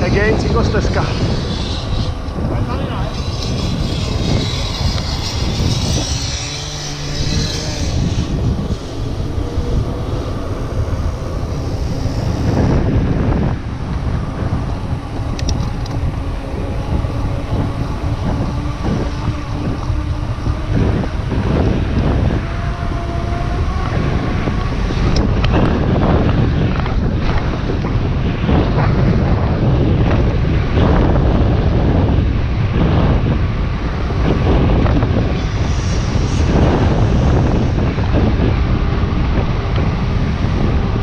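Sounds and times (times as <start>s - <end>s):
bike tyres rolling on asphalt: 0.0s - 41.0s
wind noise on microphone: 0.0s - 41.0s.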